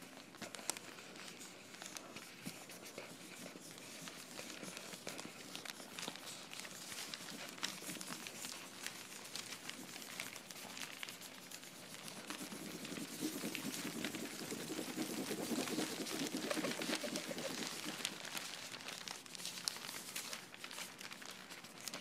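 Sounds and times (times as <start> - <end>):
dense crackling and rustling: 0.0 - 22.0.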